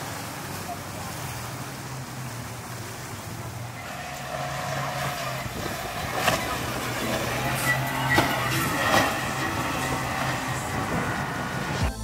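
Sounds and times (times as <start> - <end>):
motorboat engines running: 0.0 - 12.0
wind and water noise: 0.0 - 12.0
higher engine whine: 1.1 - 12.0.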